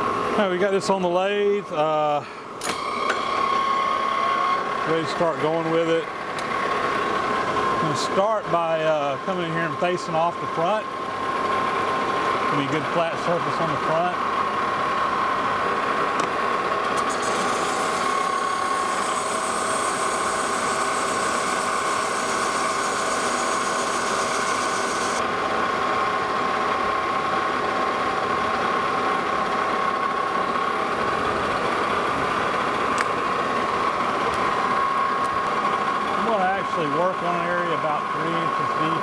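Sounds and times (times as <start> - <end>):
metal lathe whine: 2.7 - 15.9, 16.6 - 39.0.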